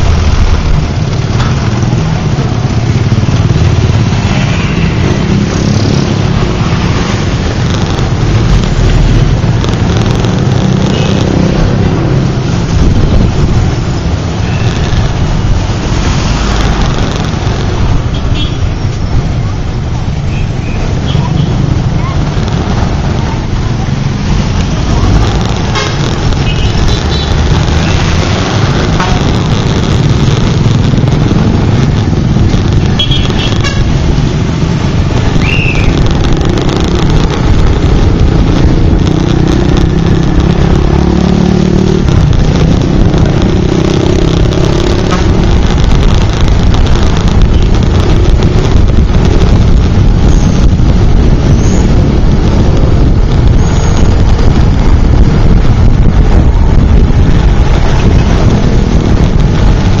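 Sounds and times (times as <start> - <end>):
motorcycle engine running: 0.0 - 18.9, 20.9 - 60.0
traffic hum: 0.0 - 60.0
wind rush on microphone: 0.0 - 60.0.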